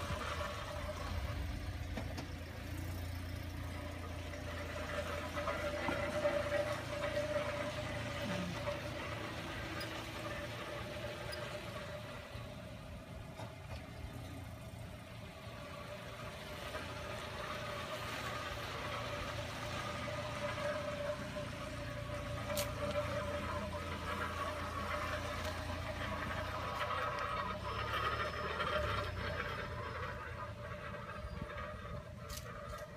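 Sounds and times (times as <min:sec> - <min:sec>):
car wheel rattling: 0:00.0 - 0:32.9.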